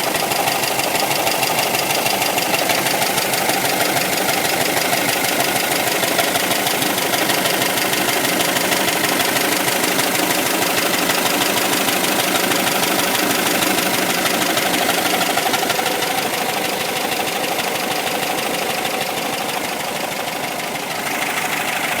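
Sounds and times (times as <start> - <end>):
air-cooled engine running: 0.0 - 22.0.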